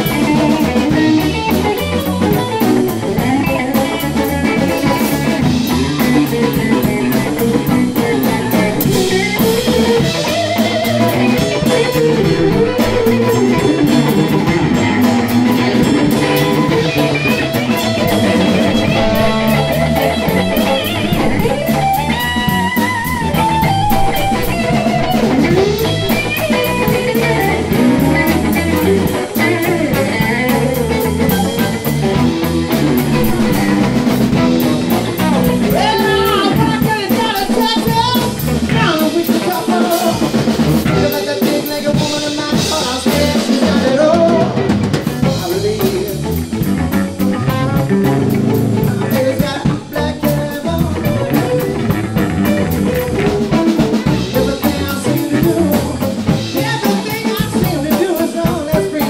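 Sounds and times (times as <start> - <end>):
blues band playing: 0.0 - 59.0
electric guitar bending notes: 0.0 - 59.0.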